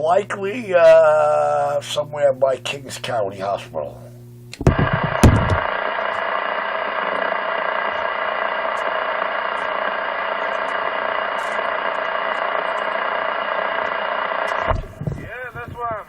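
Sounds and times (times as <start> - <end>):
faint radio buzz: 0.0 - 16.0
radio static rushing: 1.7 - 16.0.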